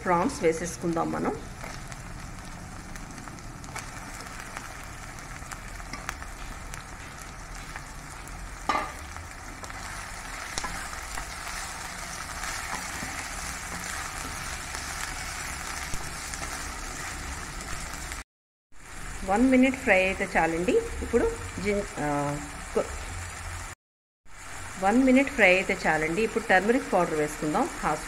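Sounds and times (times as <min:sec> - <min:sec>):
prawns sizzling in oil: 0:00.0 - 0:18.2, 0:18.8 - 0:28.0.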